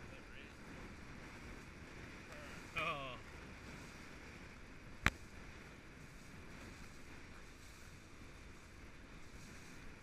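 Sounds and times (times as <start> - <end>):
wind and water rushing: 0.0 - 10.0.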